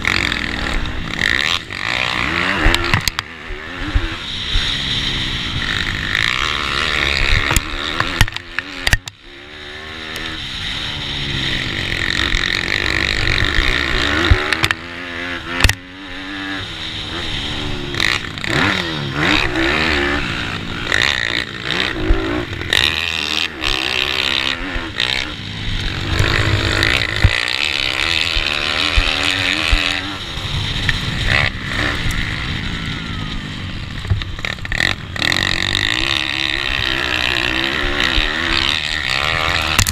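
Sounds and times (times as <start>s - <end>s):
motorbike engine revving: 0.0s - 39.9s
other motorbike engines: 0.0s - 39.9s.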